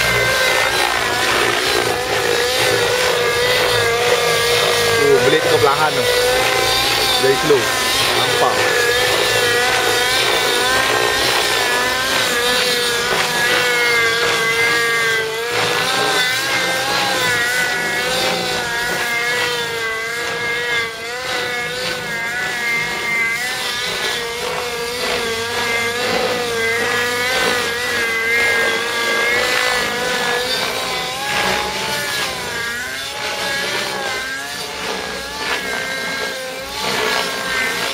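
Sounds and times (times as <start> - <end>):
rc helicopter engine and rotors: 0.0 - 37.9.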